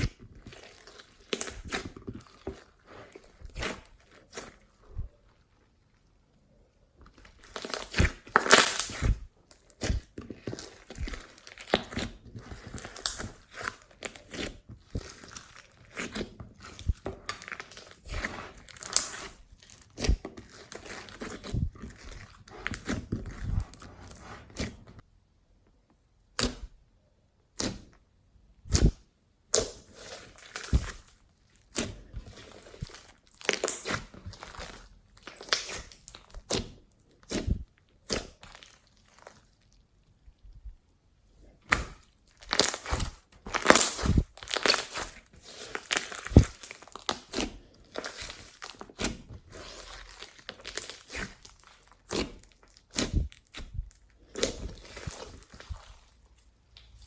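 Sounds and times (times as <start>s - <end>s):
slime squished crackling: 0.0s - 5.2s, 7.1s - 25.0s, 28.7s - 39.8s, 41.6s - 57.0s.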